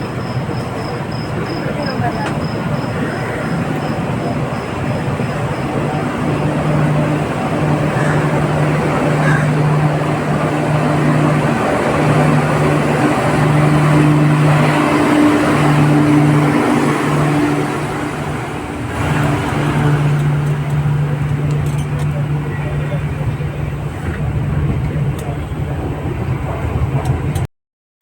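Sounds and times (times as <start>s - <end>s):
train rushing on track: 0.0s - 27.5s
low hum: 2.5s - 27.4s.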